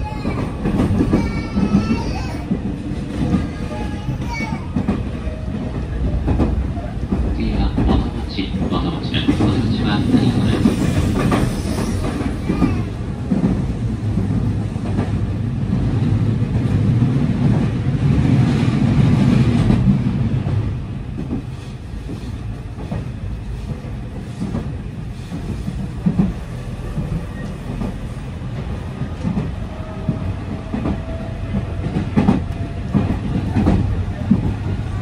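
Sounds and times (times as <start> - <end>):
clickety-clack at rail joints: 0.0 - 35.0
train wheels rumbling on rails: 0.0 - 35.0.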